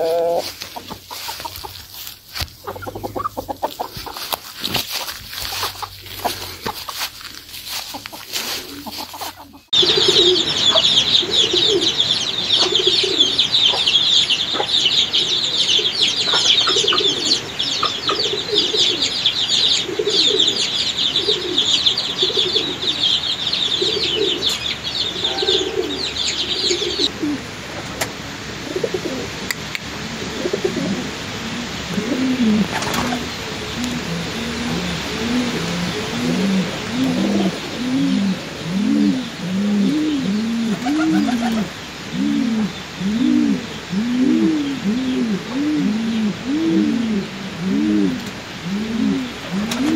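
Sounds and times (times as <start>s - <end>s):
chicks peeping: 0.0s - 45.8s
hen clucking: 0.0s - 49.9s
pigeons cooing: 0.0s - 49.9s.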